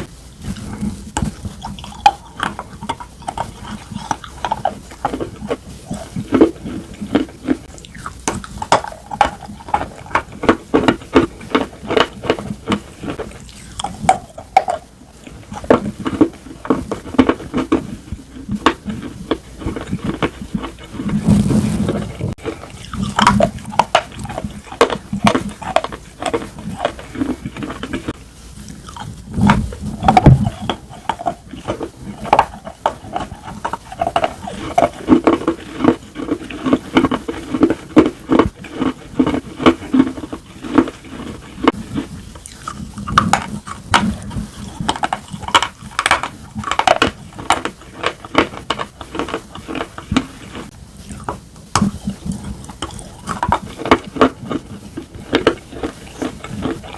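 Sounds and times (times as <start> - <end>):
slate pencils crunching in mouth: 0.0 - 56.9.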